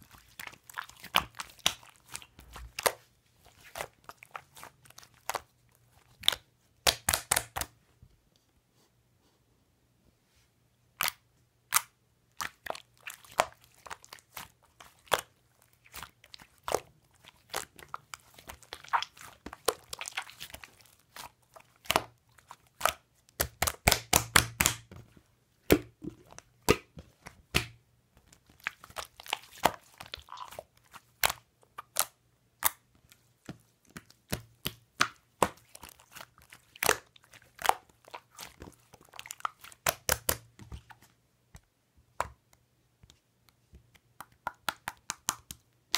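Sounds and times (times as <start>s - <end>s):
slime popping and crackling: 0.0s - 7.7s, 11.0s - 24.9s, 25.7s - 32.8s, 33.5s - 41.0s, 44.2s - 45.9s.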